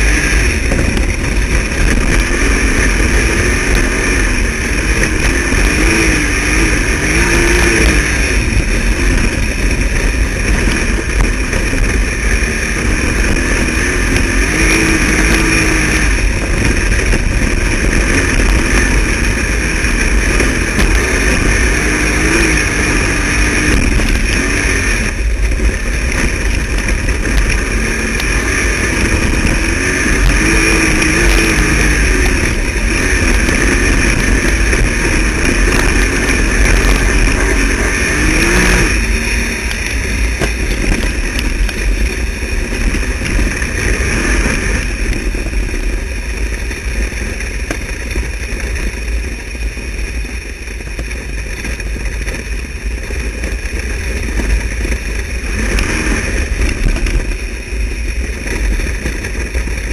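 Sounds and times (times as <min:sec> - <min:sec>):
race car engine at speed: 0:00.0 - 0:59.9
wind rumble on microphone: 0:00.0 - 0:59.9.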